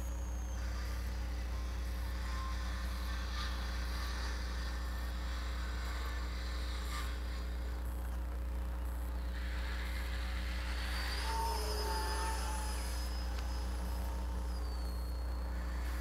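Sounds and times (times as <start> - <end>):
constant low hum: 0.0 - 16.0
model jet fan rushing: 0.0 - 16.0.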